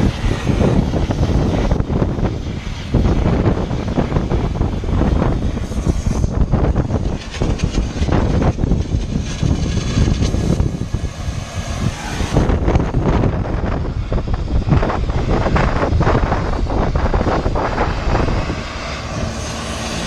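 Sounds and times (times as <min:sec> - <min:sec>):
torch flame hissing: 0:00.0 - 0:20.0.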